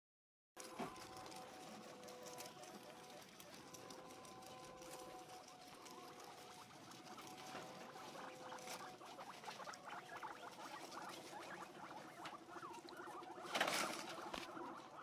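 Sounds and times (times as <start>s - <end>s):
guinea pigs chewing: 0.6s - 15.0s.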